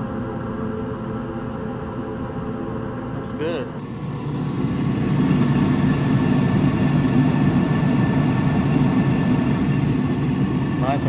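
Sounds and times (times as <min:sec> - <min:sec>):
oil furnace burner rumbling: 0:02.0 - 0:11.0.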